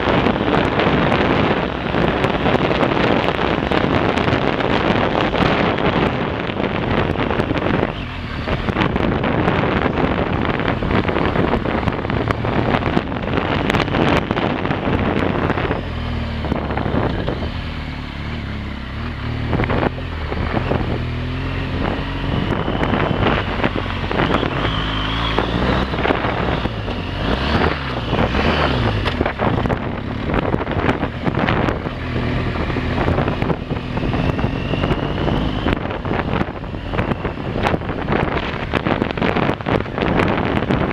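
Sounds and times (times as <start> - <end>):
motorcycle engine revving: 0.0 - 40.9
wind buffeting microphone: 0.0 - 40.9.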